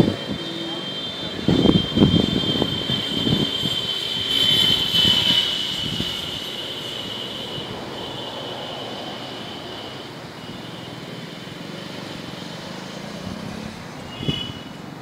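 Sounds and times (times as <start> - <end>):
distant aircraft drone: 0.0 - 15.0
road traffic passing: 0.0 - 15.0.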